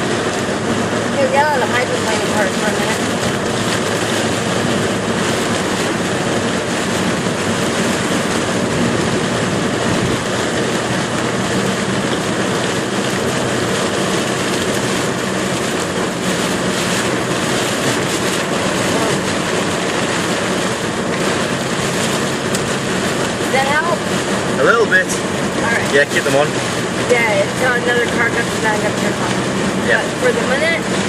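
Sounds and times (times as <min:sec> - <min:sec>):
heavy rain: 0:00.0 - 0:31.0
tyre spray on flooded road: 0:00.0 - 0:31.0.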